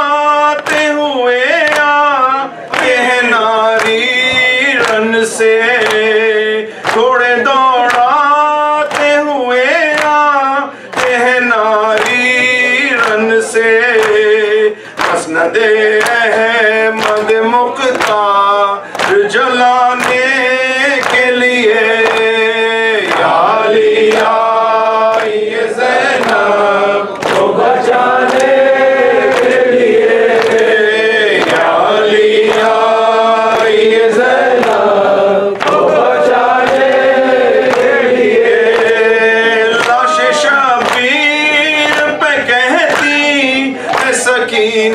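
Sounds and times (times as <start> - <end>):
man chanting through microphone: 0.0 - 44.9.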